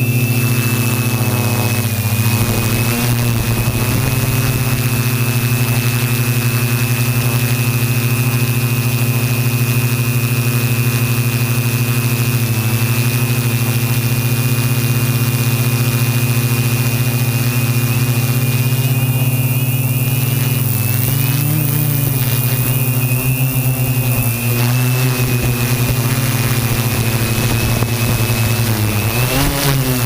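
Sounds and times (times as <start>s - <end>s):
quadcopter motors buzzing: 0.0s - 30.0s.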